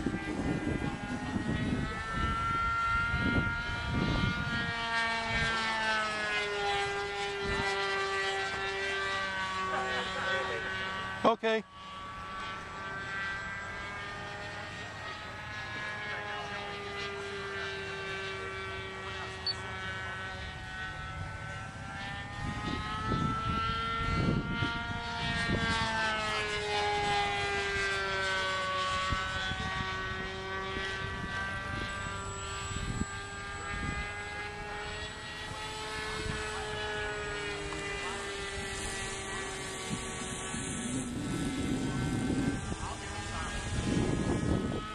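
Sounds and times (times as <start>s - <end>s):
model airplane engine buzzing: 0.0s - 44.9s.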